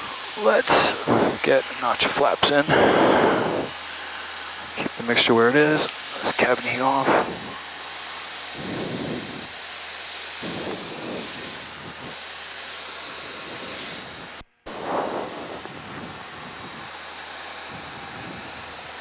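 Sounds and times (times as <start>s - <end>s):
airflow rush: 0.0s - 19.0s
propeller plane engine running: 0.0s - 19.0s.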